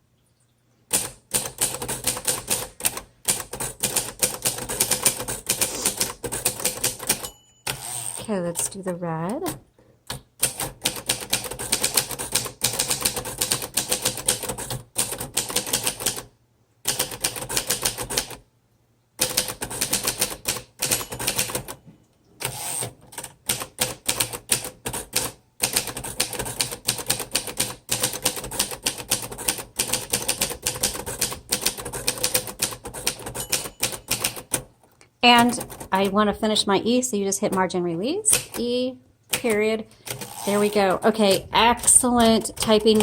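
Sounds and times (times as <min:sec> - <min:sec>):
manual typewriter typing: 0:00.9 - 0:18.4, 0:19.2 - 0:21.8, 0:22.4 - 0:36.4, 0:37.3 - 0:43.0.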